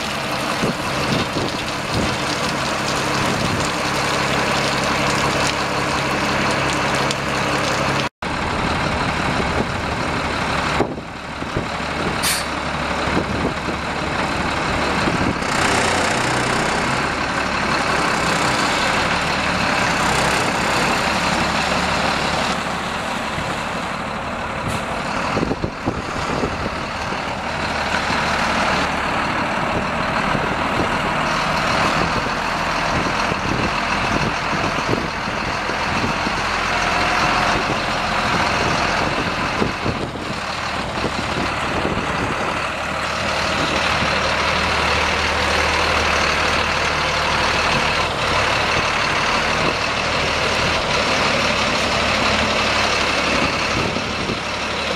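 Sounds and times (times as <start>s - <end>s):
diesel truck engine running: 0.0s - 54.9s.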